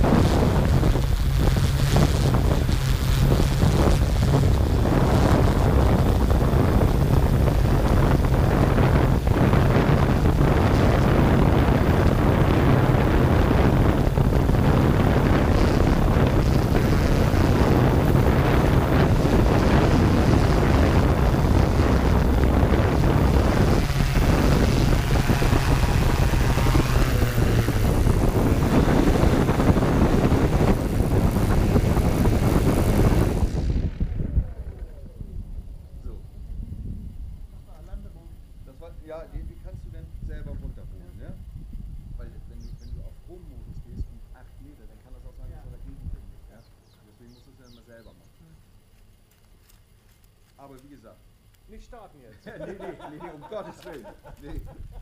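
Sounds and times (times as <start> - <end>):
drone motors and propellers: 0.0 - 46.6.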